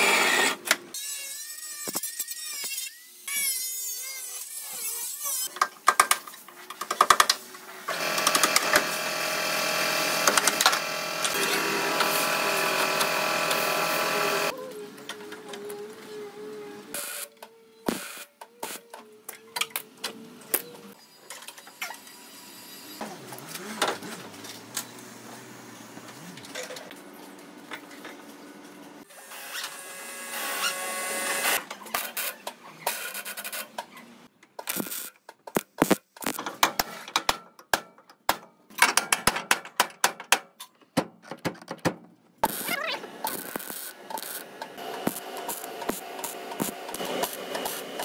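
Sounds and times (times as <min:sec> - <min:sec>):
tool and metalworking noise: 0:00.0 - 0:39.6, 0:42.4 - 0:48.0.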